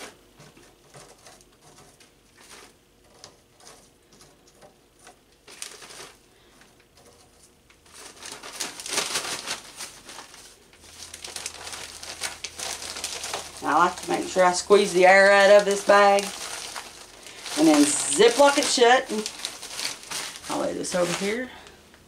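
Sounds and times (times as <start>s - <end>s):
plastic bag crinkling: 0.0s - 21.8s.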